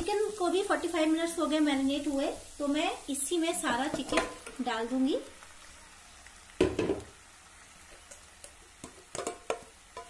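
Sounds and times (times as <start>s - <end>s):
food sizzling in pot: 0.0s - 10.0s.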